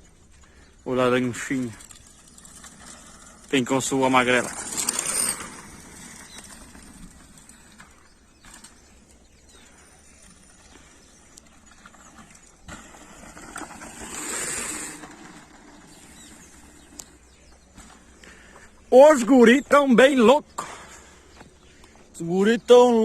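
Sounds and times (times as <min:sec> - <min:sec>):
bike tyres rushing over dirt: 0:00.0 - 0:23.0.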